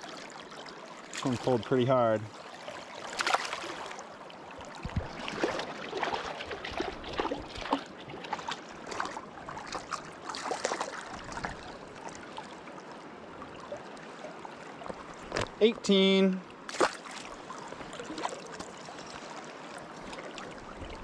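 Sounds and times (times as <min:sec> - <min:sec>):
river water splashing: 0:00.0 - 0:21.0
rushing river current: 0:00.0 - 0:21.0.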